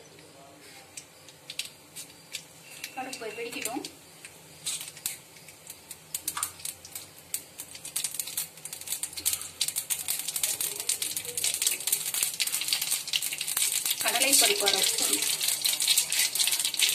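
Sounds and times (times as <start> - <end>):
mustard seeds popping in hot oil: 0.9 - 16.9.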